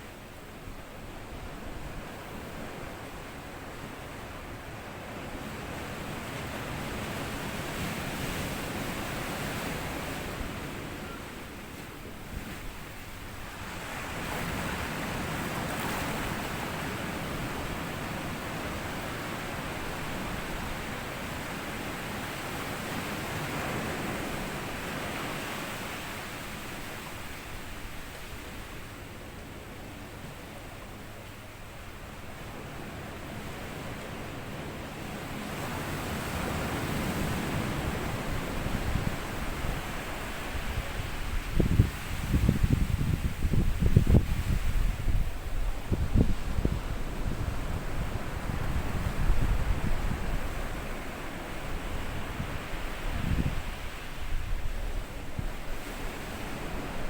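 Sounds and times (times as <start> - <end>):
waves washing onto beach: 0.0 - 57.0.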